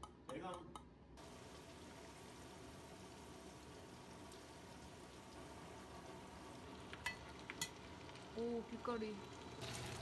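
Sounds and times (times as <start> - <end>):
vegetables sizzling in oil: 1.2 - 10.0.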